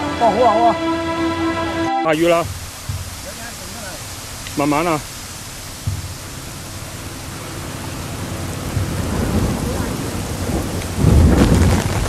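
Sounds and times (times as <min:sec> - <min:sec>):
rain hissing: 0:00.0 - 0:12.0
thunder rumbling: 0:02.3 - 0:12.0.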